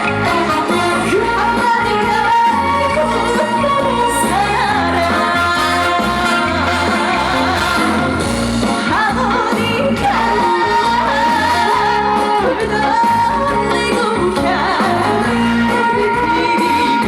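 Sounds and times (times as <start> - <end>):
backing track with bass line: 0.0 - 17.0
woman singing: 0.0 - 17.0.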